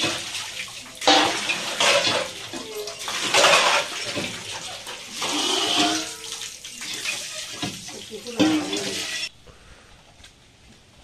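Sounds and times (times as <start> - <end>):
water gushing from pump spout: 0.0 - 9.3
water splashing on metal pots: 0.0 - 9.3.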